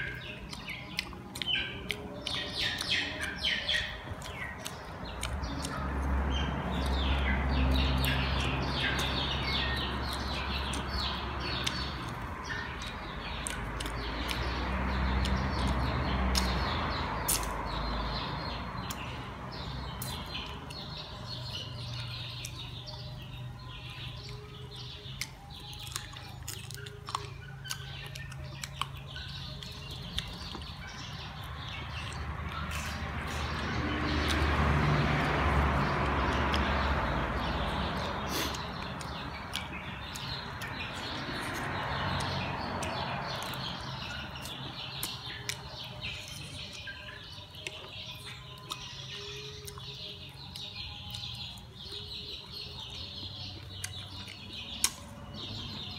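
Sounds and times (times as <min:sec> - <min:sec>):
birds chirping: 0:00.0 - 0:55.9
close-up chewing and finger-licking: 0:00.0 - 0:55.9.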